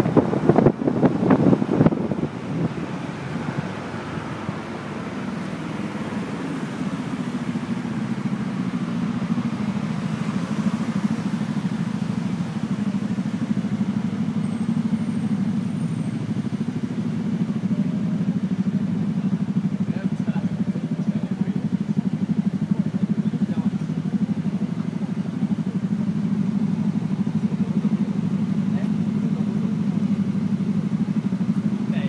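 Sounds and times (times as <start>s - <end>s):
scooter engines running: 0.0s - 32.0s.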